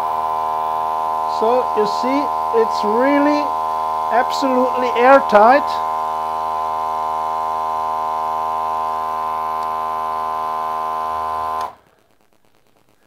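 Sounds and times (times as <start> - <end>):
vacuum pump humming: 0.0 - 11.8.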